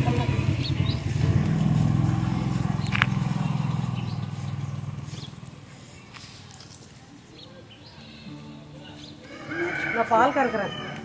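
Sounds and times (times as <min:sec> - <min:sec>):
vehicle engine humming: 0:00.0 - 0:09.4.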